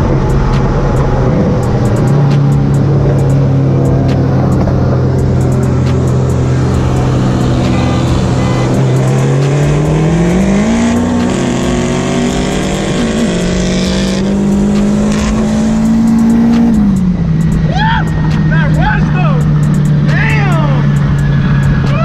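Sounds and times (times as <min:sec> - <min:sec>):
turbocharged car engine revving: 0:00.0 - 0:22.0.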